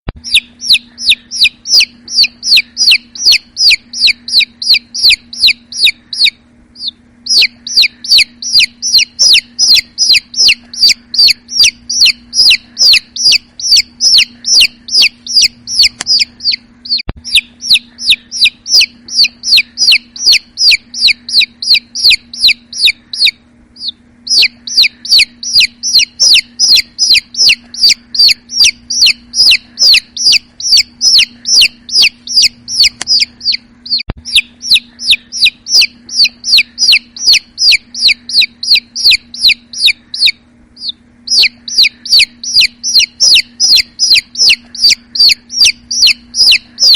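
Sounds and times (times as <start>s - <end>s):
chicks peeping: 0.2s - 46.9s.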